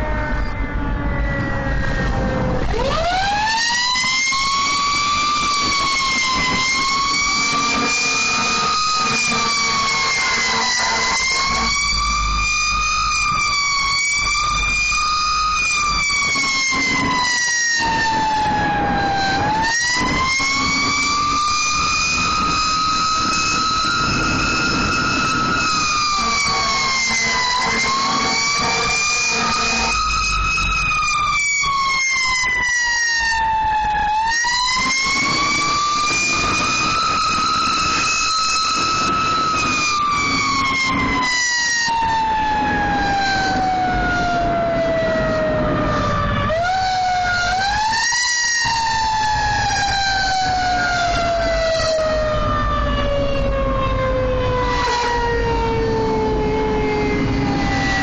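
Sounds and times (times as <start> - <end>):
emergency siren wailing: 0.0 - 58.0.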